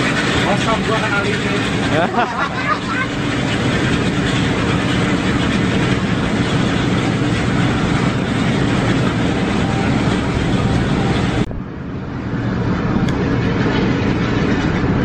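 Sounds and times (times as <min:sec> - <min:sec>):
coach engine and road noise: 0:00.0 - 0:15.0.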